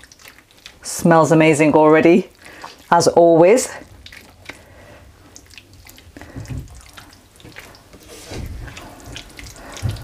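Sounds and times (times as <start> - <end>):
wet squelching and sloshing: 0.0 - 10.0.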